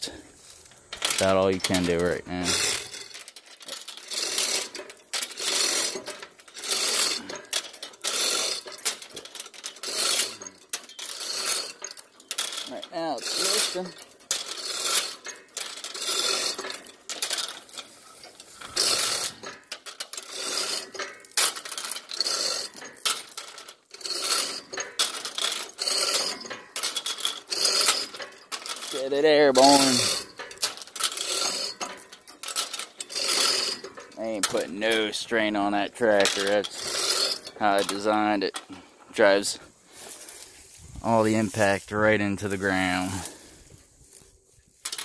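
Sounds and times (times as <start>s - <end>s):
steel chain rattling through hoist: 0.0s - 43.9s, 44.6s - 45.0s.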